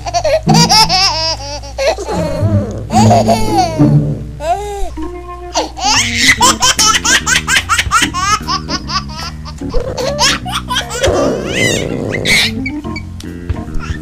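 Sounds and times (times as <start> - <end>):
high-pitched laughter: 0.0 - 12.8
background music: 2.2 - 14.0.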